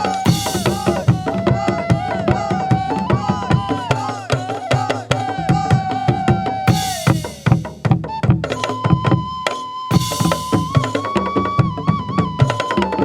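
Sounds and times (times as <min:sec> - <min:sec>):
bamboo percussion and drums: 0:00.0 - 0:13.0
held melody tone: 0:00.0 - 0:13.0.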